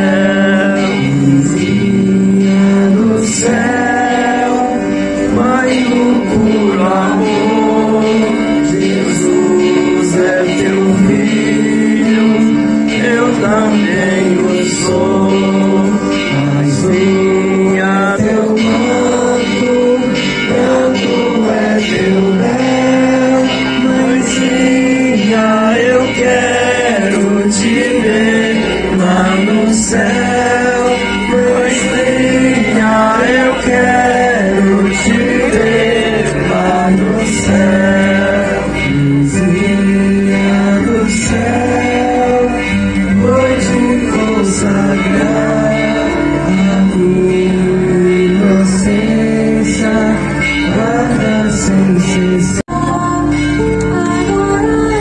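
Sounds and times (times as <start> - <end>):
man singing a hymn: 0.0 - 52.7
sustained accompaniment: 0.0 - 55.0.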